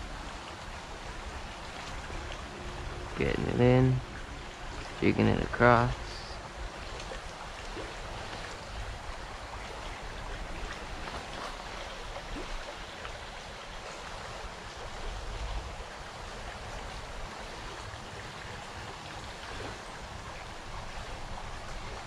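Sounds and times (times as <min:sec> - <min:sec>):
creek water rushing over stones: 0:00.0 - 0:22.0.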